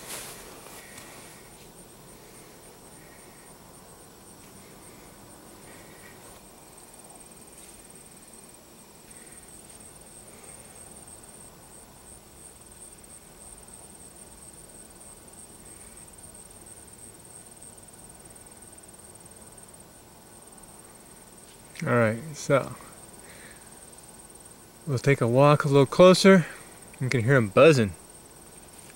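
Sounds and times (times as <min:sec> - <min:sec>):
faint hum of bees: 0:00.0 - 0:28.9
insects trilling: 0:00.0 - 0:28.9.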